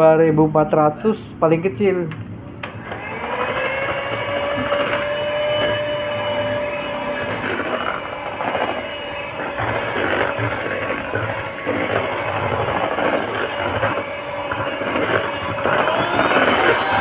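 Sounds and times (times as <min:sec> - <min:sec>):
electric hand mixer whirring: 0:02.6 - 0:17.0.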